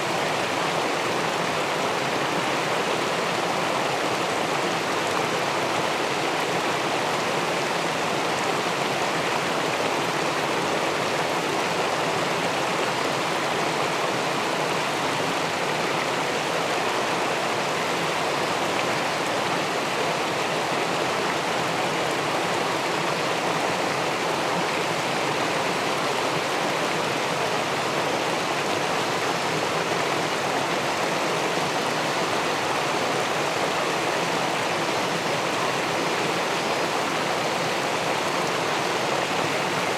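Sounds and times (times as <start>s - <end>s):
river water rushing over weir: 0.0s - 39.9s.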